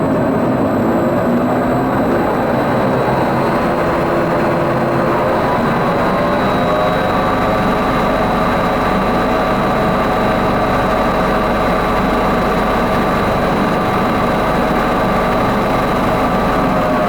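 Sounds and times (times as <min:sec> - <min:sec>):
carousel ride machinery humming: 0:01.0 - 0:17.0.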